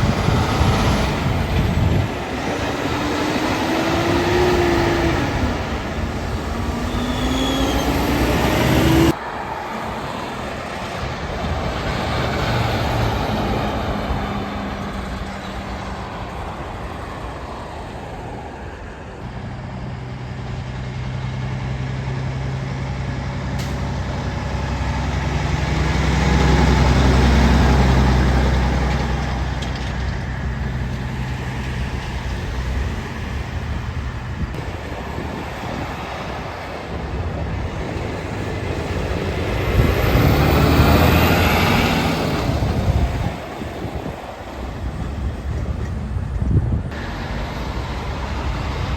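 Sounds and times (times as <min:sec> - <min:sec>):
diesel trucks passing: 0:00.0 - 0:48.9.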